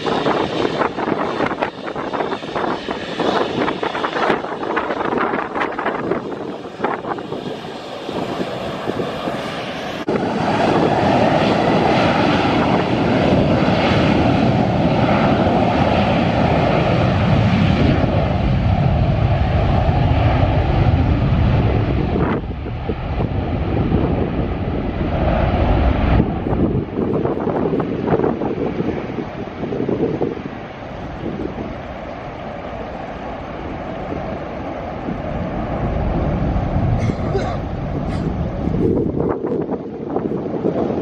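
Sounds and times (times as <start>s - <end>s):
airliner engines roaring: 0.0s - 41.0s.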